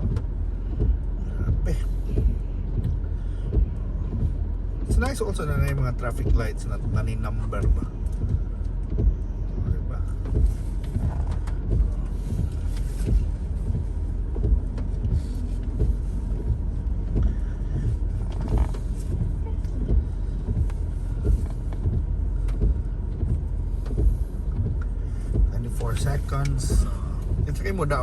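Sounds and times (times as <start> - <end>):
engine and road rumble: 0.0 - 28.0
short low thumps: 0.0 - 28.0.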